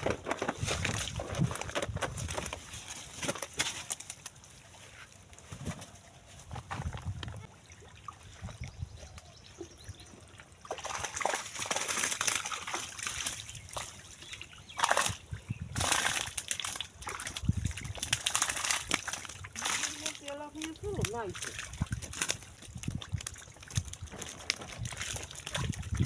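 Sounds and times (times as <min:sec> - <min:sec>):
water sloshing and splashing: 0:00.0 - 0:26.0.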